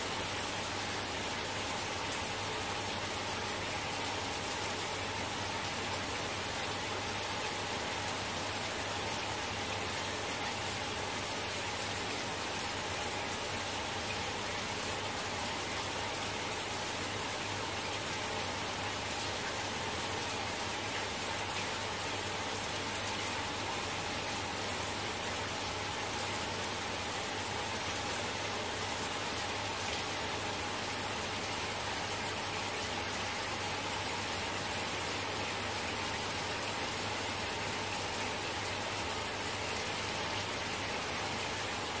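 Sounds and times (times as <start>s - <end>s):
steady rain-like hiss: 0.0s - 42.0s.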